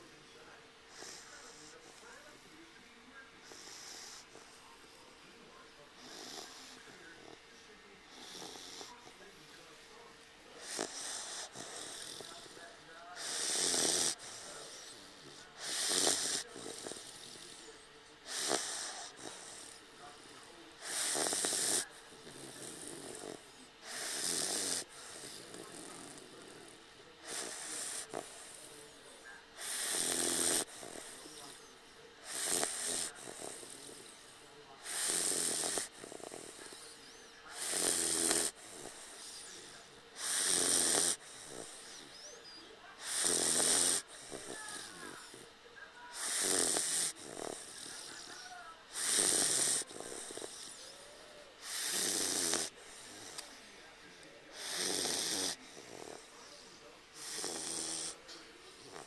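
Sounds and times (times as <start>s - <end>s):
puppy snoring: 0.0s - 59.0s.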